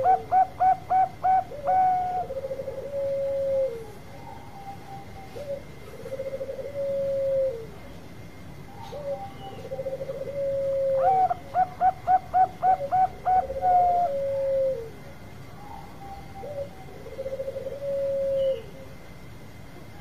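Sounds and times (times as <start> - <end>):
dove cooing: 0.0 - 7.9, 8.7 - 19.0.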